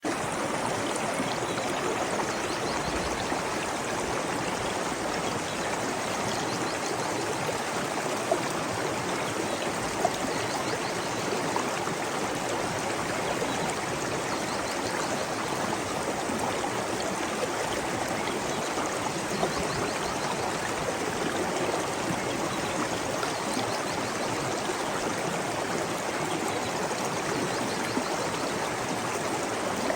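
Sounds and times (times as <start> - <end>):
stream rushing and splashing: 0.0 - 29.9.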